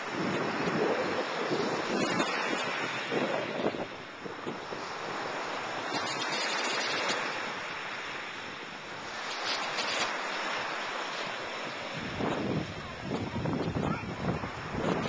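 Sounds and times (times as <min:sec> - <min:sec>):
surf washing over rocks: 0:00.0 - 0:15.0.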